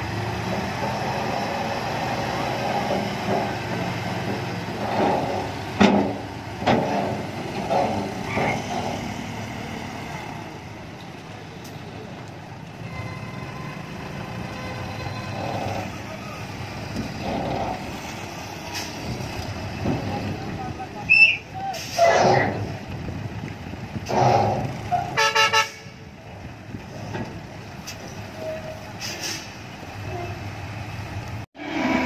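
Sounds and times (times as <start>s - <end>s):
dump truck engine running: 0.0s - 31.5s.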